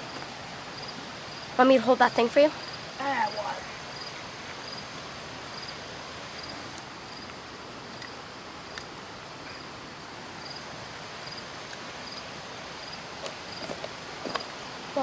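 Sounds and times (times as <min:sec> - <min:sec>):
insect chirping: 0:00.0 - 0:15.0
outdoor background hiss: 0:00.0 - 0:15.0.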